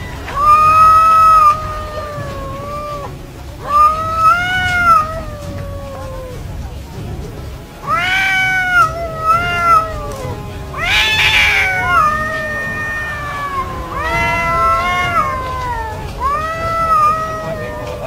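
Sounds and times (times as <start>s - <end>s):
cats yowling: 0.0s - 6.8s, 7.8s - 18.0s.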